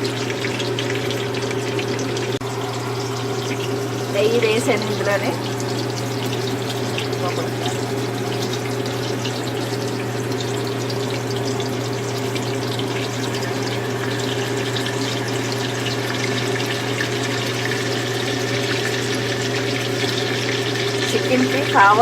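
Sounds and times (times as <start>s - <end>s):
ghee crackling in a pan: 0.0s - 22.0s
kitchen hum and hiss: 0.0s - 22.0s.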